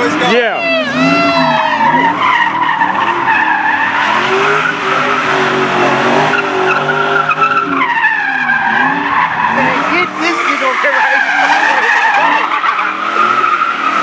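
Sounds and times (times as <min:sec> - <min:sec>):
car engine at high revs: 0:00.0 - 0:14.0
tires spinning and squealing: 0:00.0 - 0:14.0.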